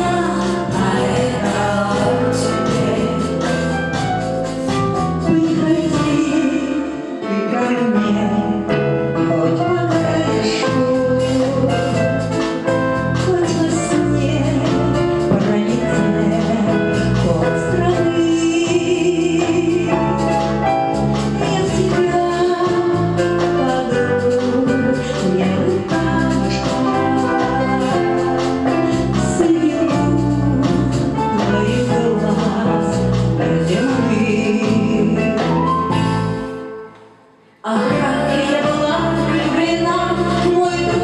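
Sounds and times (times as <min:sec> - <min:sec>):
woman singing into microphone: 0:00.0 - 0:03.6, 0:05.2 - 0:12.2, 0:13.2 - 0:20.1, 0:21.4 - 0:36.1, 0:37.6 - 0:41.0
instrumental backing with beat: 0:00.0 - 0:07.5, 0:08.1 - 0:41.0.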